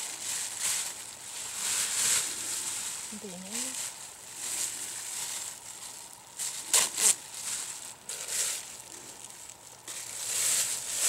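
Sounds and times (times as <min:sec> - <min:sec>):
rustling in dry pine needles: 0:00.0 - 0:11.0.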